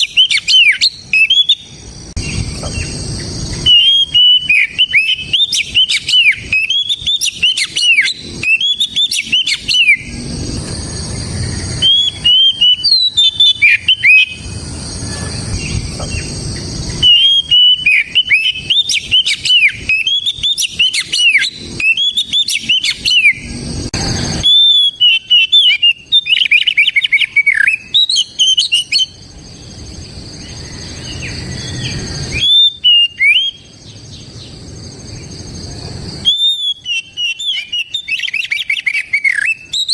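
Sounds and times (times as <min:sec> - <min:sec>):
bird singing whistled song: 0:00.0 - 0:35.4, 0:36.2 - 0:39.9.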